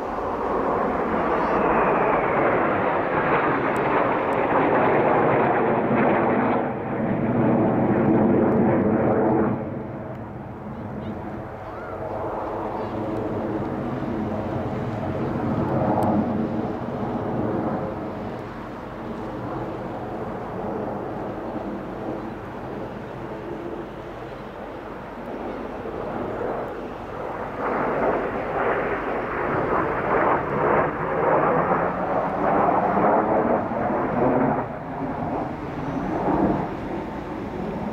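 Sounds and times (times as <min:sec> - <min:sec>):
jet aircraft rumbling: 0:00.0 - 0:37.9.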